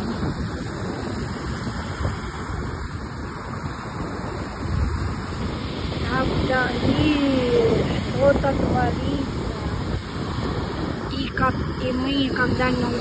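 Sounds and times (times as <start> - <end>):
surf on pebble shore: 0.0 - 13.0
wind buffeting microphone: 0.0 - 13.0.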